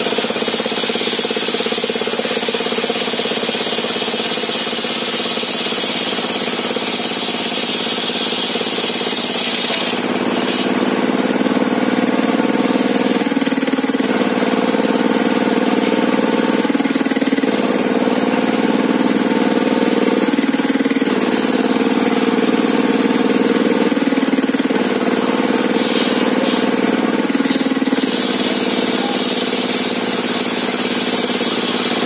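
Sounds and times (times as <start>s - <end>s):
sawmill machinery running: 0.0s - 32.0s.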